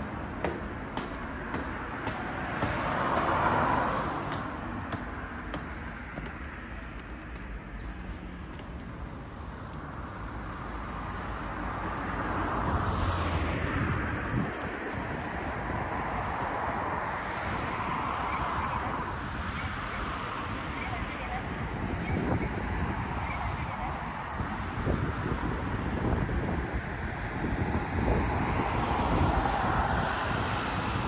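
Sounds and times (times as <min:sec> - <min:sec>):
cars passing on street: 0:00.0 - 0:31.0.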